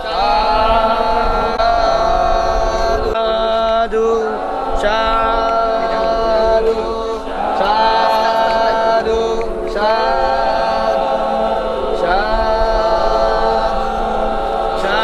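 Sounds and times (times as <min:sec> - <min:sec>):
unaccompanied devotional chanting: 0:00.0 - 0:15.0.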